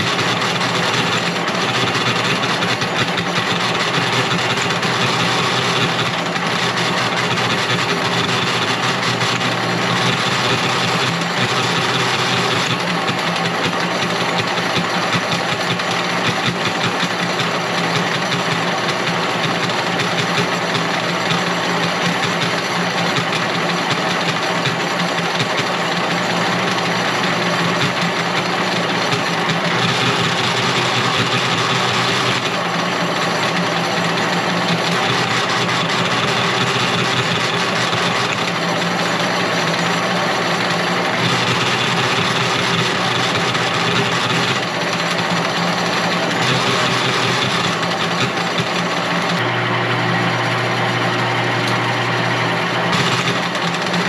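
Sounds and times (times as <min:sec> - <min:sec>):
motor running steadily: 0:00.0 - 0:54.0.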